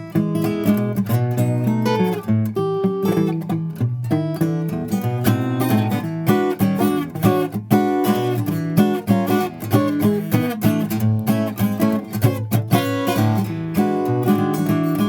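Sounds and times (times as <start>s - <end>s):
solo acoustic guitar: 0.0s - 15.0s.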